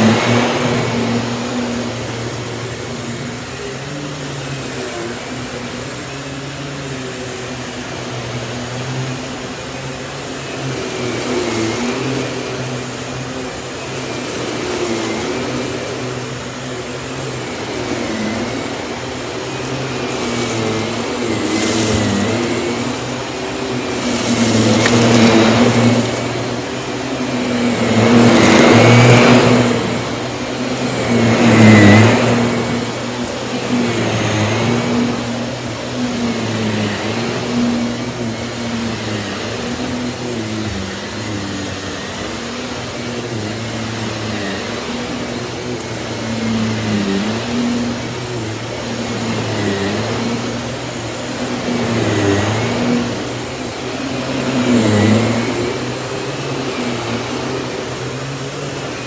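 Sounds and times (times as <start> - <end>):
stick vacuum running: 0.0 - 59.0.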